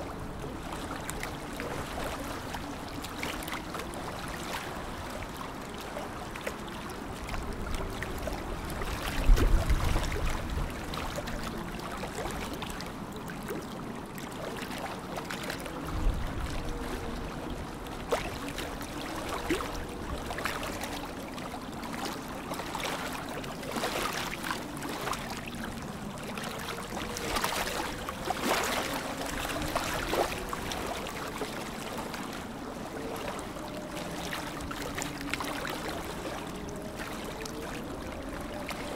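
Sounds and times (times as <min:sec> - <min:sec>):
small water splashes: 0:00.0 - 0:38.9
water lapping and trickling: 0:00.0 - 0:38.9.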